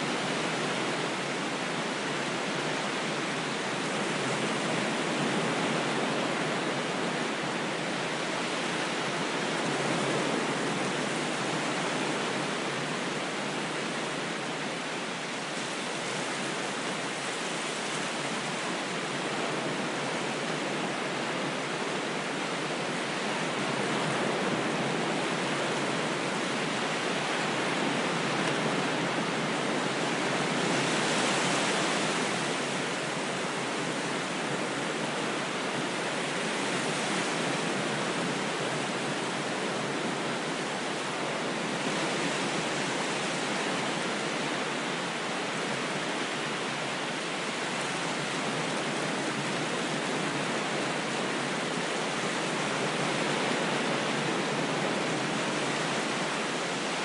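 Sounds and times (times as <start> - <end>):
ocean waves surf: 0.0 - 57.0.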